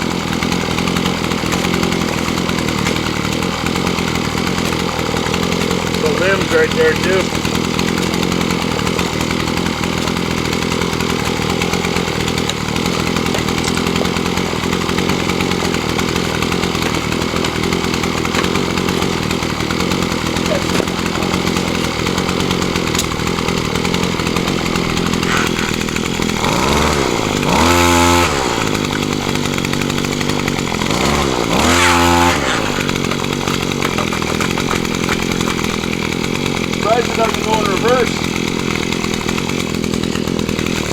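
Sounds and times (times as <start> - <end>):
auger engine running: 0.0 - 40.9.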